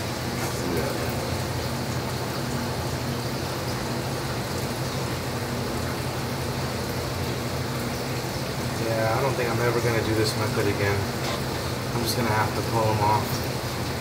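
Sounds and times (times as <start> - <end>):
low hum of tank system: 0.0 - 14.0
running water rushing: 0.0 - 14.0.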